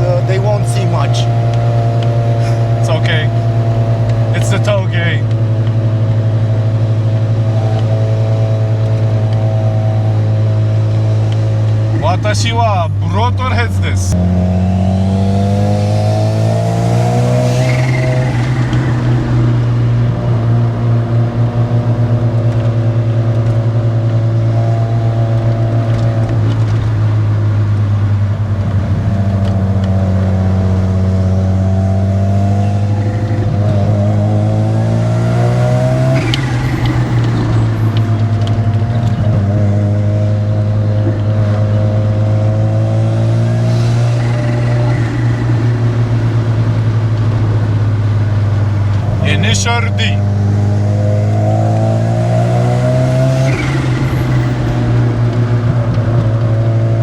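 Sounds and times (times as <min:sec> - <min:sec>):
rotary engine accelerating: 0:00.0 - 0:57.0.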